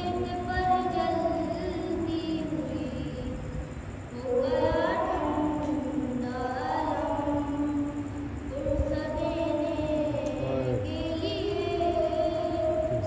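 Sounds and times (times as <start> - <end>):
boy chanting a lament: 0.0 - 13.0.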